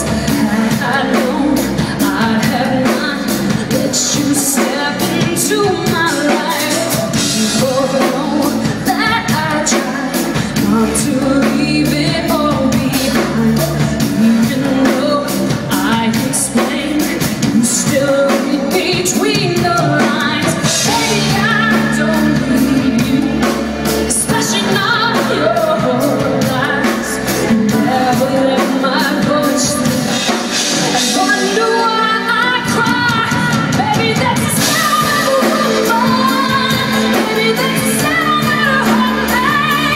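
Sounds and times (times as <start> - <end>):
live pop band: 0.0 - 39.9
woman singing: 0.0 - 39.9.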